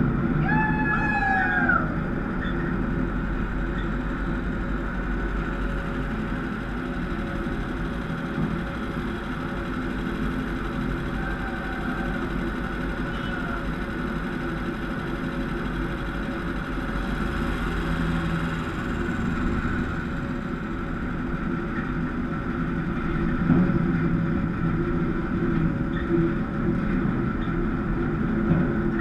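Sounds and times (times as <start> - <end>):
bus engine running: 0.0 - 29.0.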